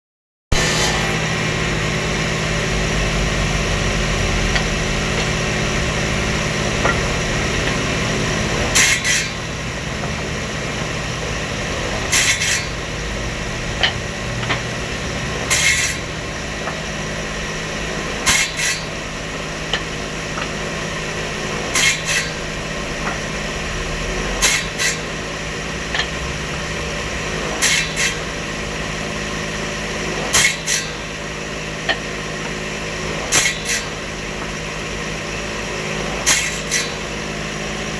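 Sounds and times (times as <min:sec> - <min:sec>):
saw blade cutting wood: 0:00.5 - 0:37.9
table saw running: 0:00.5 - 0:37.9.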